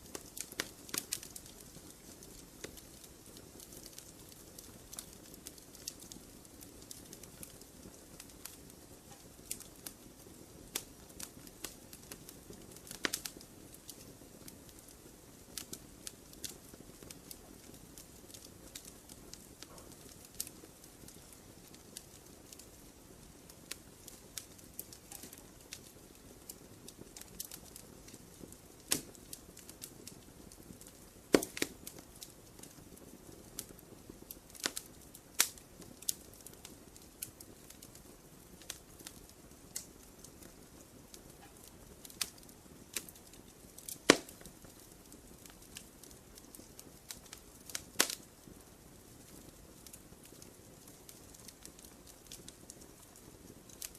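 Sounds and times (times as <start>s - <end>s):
campfire crackling and popping: 0.0s - 53.9s
hiss of burning wood: 0.0s - 53.9s.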